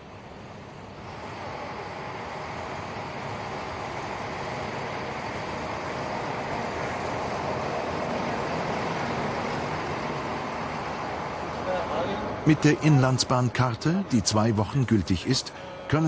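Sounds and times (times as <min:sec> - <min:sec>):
diesel railcar passing: 0:00.0 - 0:16.0.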